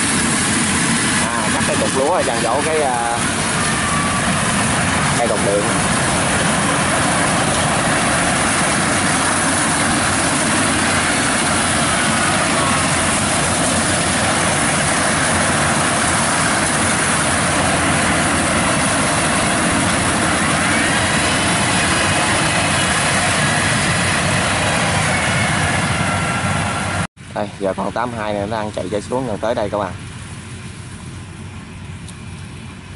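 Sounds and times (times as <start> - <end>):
combine harvester droning: 0.0 - 32.9.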